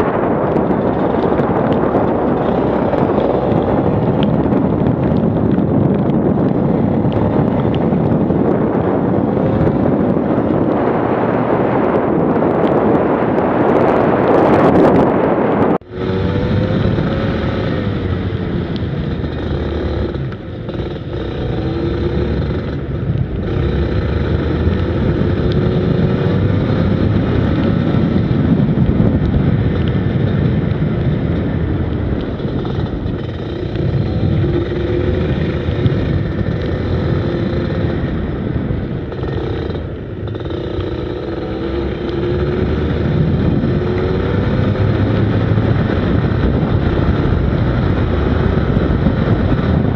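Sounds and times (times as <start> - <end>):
go-kart engine revving: 0.0 - 11.6, 15.8 - 28.6, 32.2 - 49.9.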